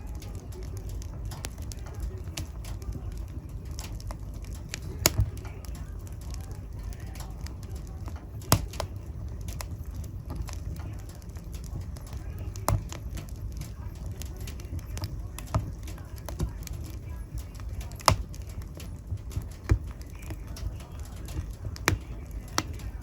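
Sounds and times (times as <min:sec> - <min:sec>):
loud fire pops: 0:00.0 - 0:23.0
low rumble of flames: 0:00.0 - 0:23.0
wood fire crackling: 0:00.0 - 0:23.0.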